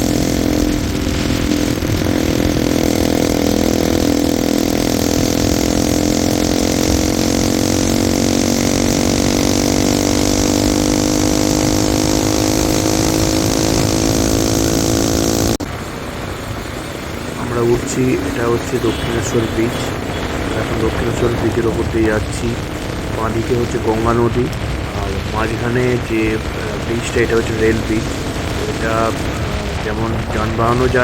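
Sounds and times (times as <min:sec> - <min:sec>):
motorcycle engine under load: 0:00.0 - 0:31.0.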